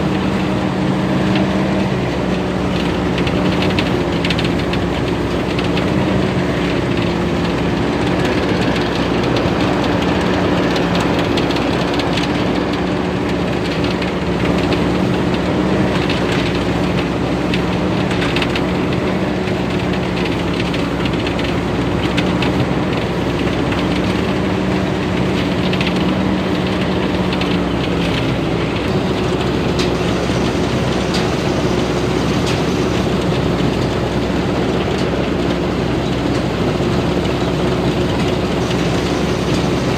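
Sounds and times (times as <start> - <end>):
diesel engine running under load: 0.0 - 39.9
machinery rattling and clattering: 0.0 - 39.9.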